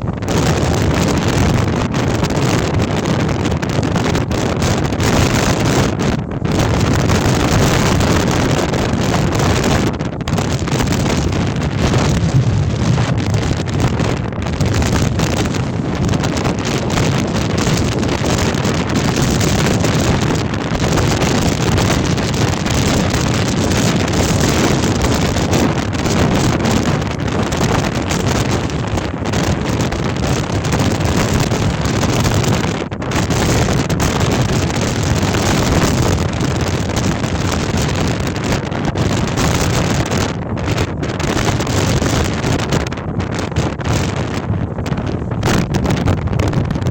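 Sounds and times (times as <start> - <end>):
strong wind buffeting microphone: 0.0 - 46.9.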